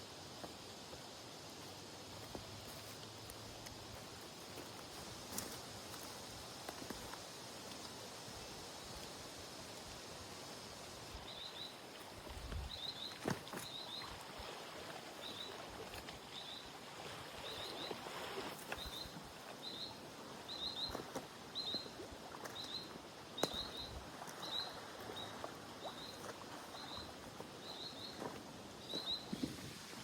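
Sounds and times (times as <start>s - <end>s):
faint outdoor background noise: 0.0s - 30.0s.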